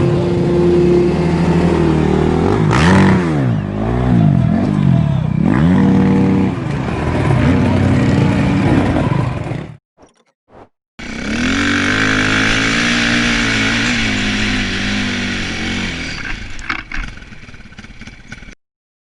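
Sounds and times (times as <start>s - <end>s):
dirt bike engine revving high: 0.0s - 9.2s, 11.0s - 18.4s.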